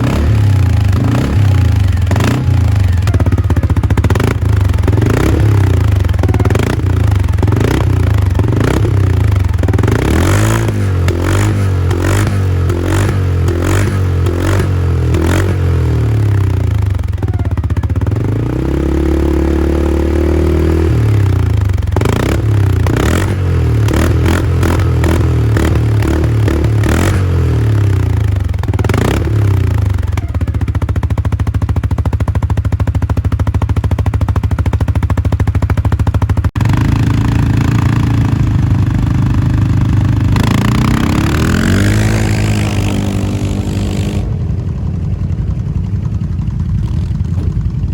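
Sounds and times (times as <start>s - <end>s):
atv engine revving: 0.0s - 47.9s.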